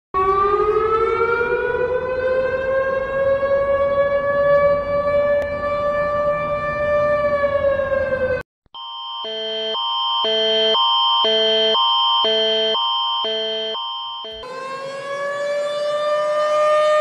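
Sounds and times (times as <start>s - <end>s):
warning siren long tone: 0.2s - 17.0s.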